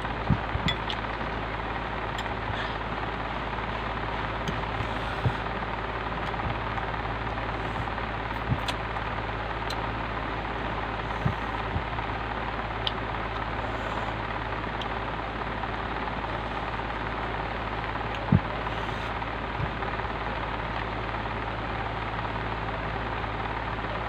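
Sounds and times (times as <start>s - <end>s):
steady hiss and low hum: 0.0s - 24.0s.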